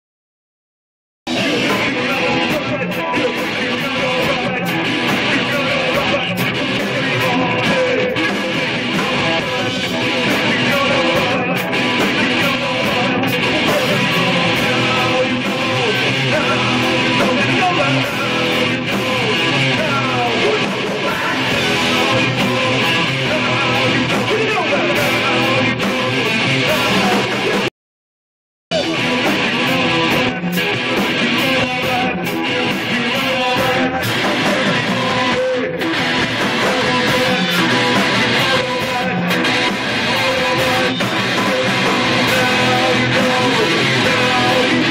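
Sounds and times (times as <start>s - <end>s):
live band playing: 1.3s - 27.7s, 28.7s - 44.9s
strummed guitar: 1.3s - 27.7s, 28.7s - 44.9s.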